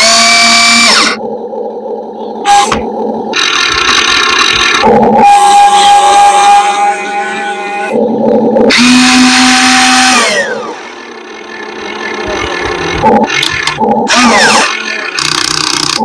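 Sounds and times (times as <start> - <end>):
electric motor whine: 0.0 - 5.7, 6.5 - 16.0.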